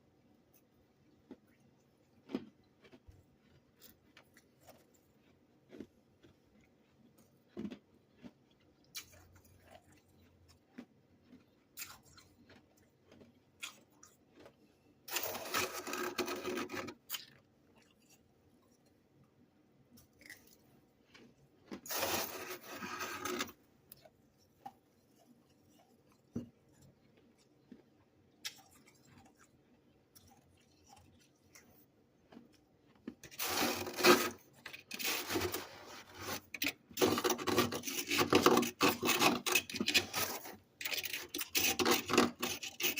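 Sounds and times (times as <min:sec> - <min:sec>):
ice crunching while chewed: 0:00.5 - 0:19.3, 0:19.9 - 0:42.9.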